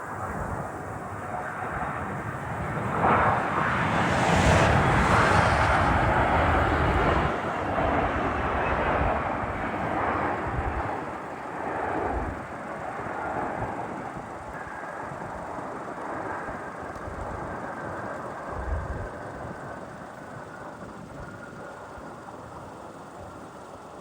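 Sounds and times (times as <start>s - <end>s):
jet engines roaring past: 0.0s - 24.0s.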